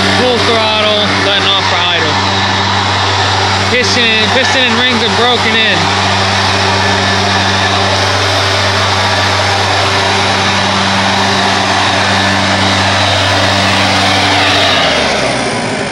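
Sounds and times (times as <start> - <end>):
air rushing from blower tube: 0.0 - 15.9
leaf blower engine running: 0.0 - 15.9.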